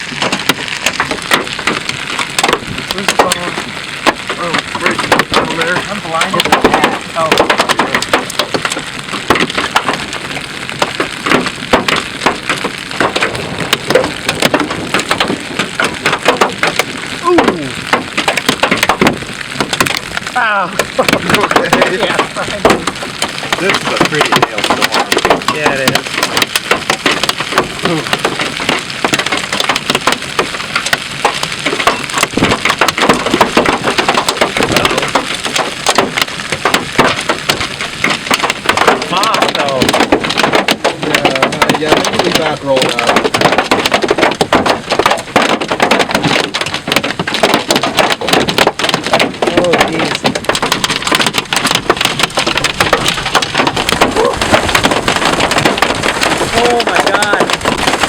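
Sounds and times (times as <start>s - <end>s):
hailstones pelting vehicle roof: 0.0s - 58.0s
rain hissing: 0.0s - 58.0s
wind: 0.0s - 58.0s.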